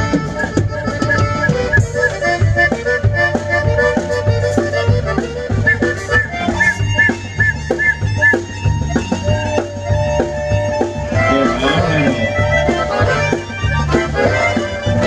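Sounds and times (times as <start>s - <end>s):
accordion quick melody: 0.0s - 15.0s
pulsing electric bass line: 0.0s - 15.0s.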